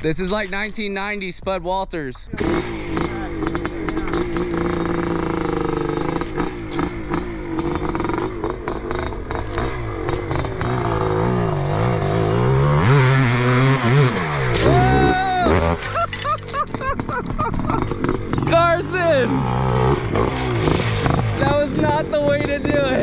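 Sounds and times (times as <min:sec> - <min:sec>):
motocross bike engine revving: 0:02.4 - 0:23.0.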